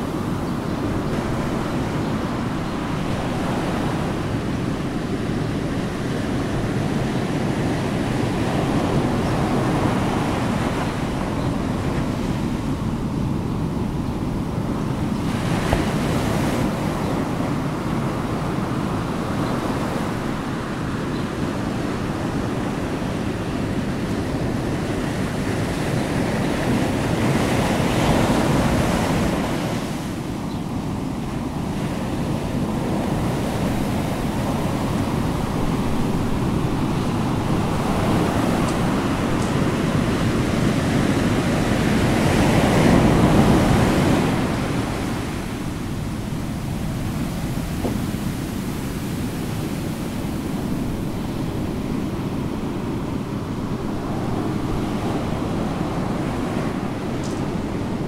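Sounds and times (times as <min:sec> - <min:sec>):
ocean waves washing: 0:00.0 - 0:58.0.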